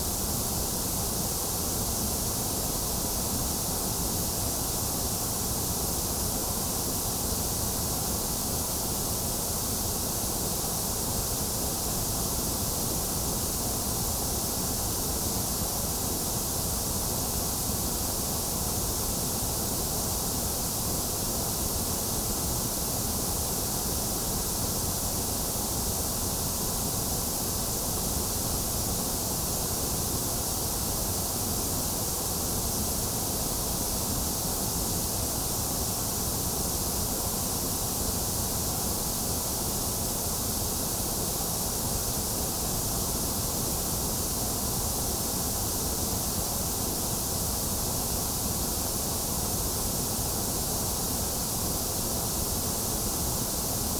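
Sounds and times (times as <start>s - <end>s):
white noise hiss: 0.0s - 53.9s.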